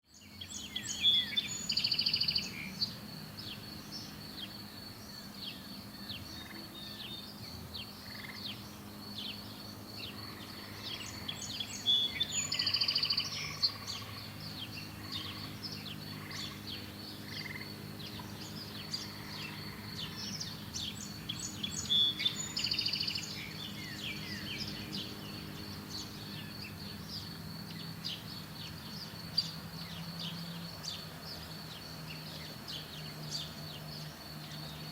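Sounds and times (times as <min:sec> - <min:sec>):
birds singing and chirping: 0:00.1 - 0:34.9.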